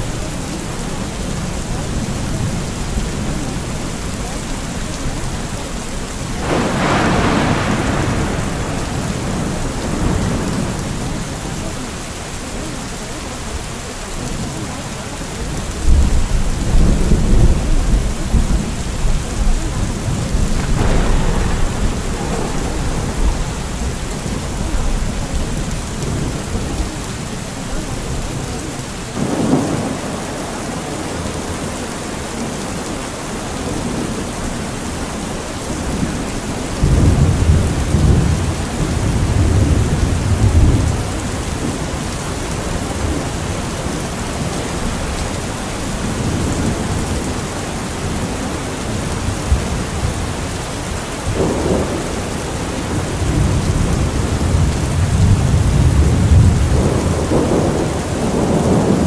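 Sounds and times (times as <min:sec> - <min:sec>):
low thunder rumbling: 0:00.0 - 0:13.6, 0:14.2 - 0:32.4, 0:35.4 - 0:59.0
steady rain: 0:00.0 - 0:59.0.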